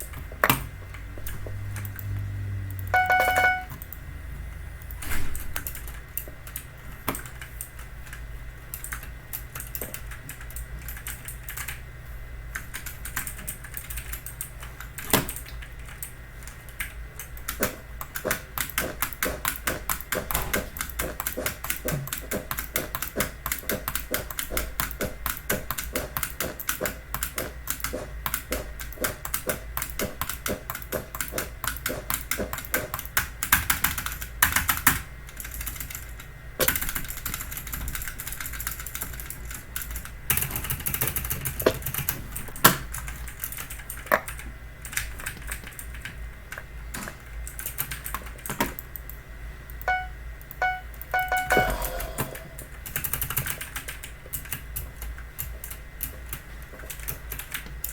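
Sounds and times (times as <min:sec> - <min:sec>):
clicky mechanical keyboard typing: 0:01.2 - 0:04.0, 0:04.8 - 0:11.8, 0:12.5 - 0:49.1, 0:49.9 - 0:57.9.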